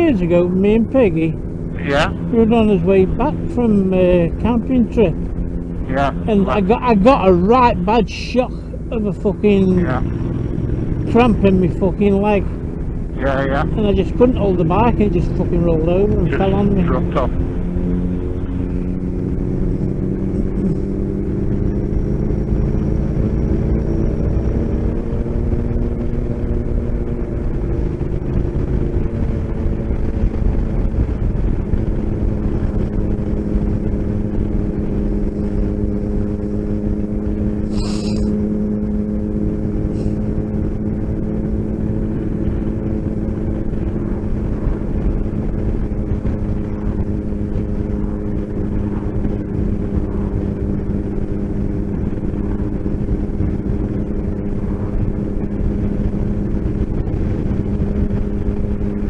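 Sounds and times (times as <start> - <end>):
motorcycle engine cruising: 0.0 - 59.0
road and wind rumble: 0.0 - 59.0.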